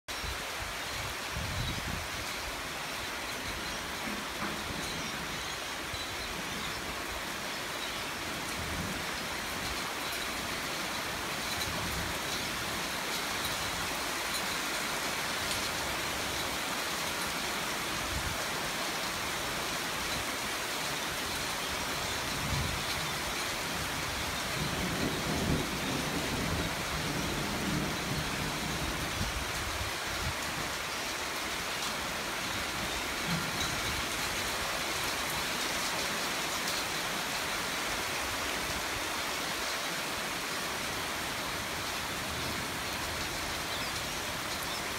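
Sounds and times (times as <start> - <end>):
heavy rain falling: 0.1 - 44.9.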